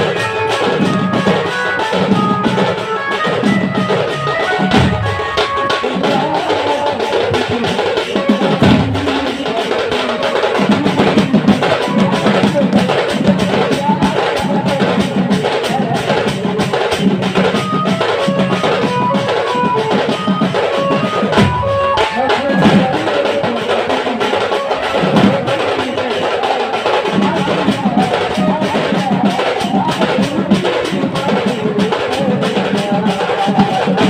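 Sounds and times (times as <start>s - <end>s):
drums beating fast rhythm: 0.0s - 34.0s.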